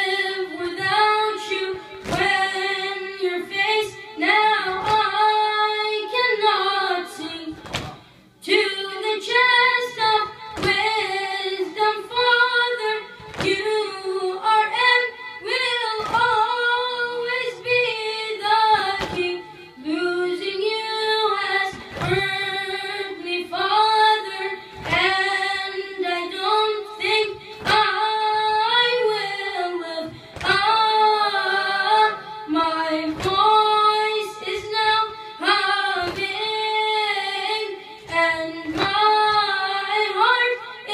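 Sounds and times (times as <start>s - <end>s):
boy singing unaccompanied: 0.0s - 40.9s.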